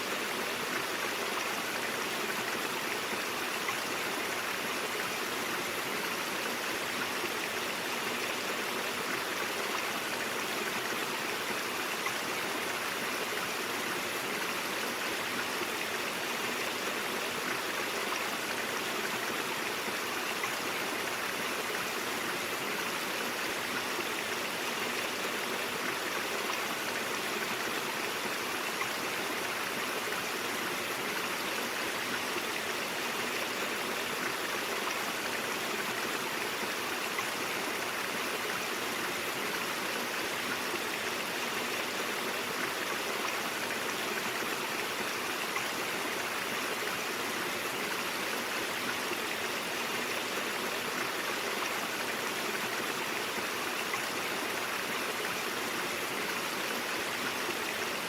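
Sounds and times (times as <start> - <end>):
water running over rocks: 0.0 - 58.0.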